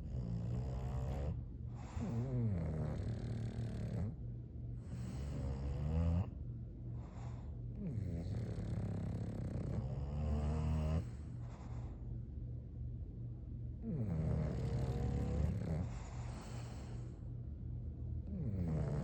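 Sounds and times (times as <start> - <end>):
dog snoring: 0.0 - 12.0, 13.8 - 17.2, 18.2 - 19.0.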